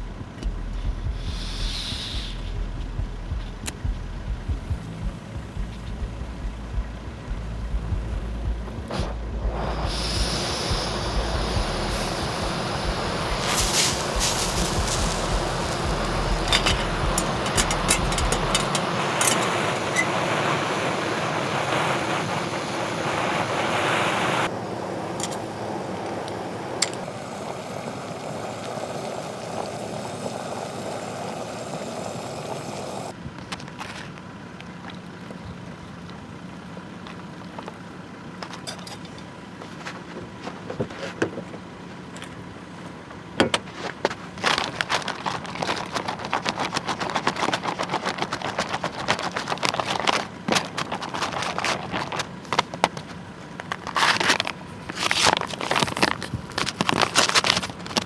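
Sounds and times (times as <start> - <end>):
truck engine and road noise: 0.0 - 58.0.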